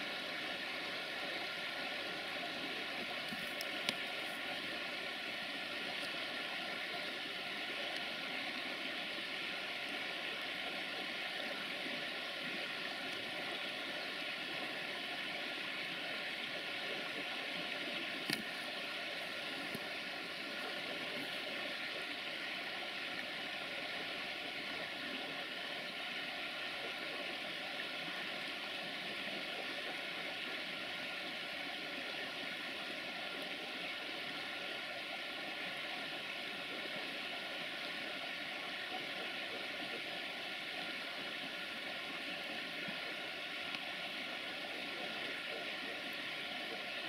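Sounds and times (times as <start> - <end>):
steady rushing hiss: 0.0 - 47.0.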